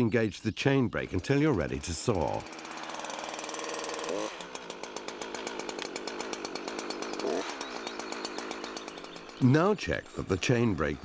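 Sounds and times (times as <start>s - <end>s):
chainsaw idling and revving: 1.0s - 11.0s.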